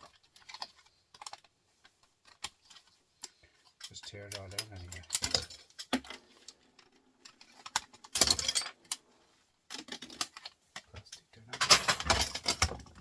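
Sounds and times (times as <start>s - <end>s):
small metal and plastic parts clinking: 0.0s - 9.1s, 9.7s - 13.0s.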